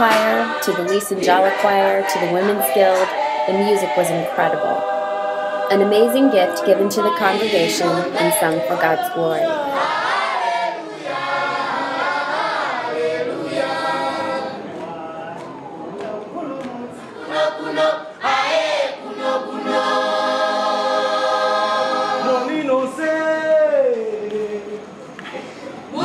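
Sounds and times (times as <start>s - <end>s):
choir singing in harmony: 0.0s - 24.9s.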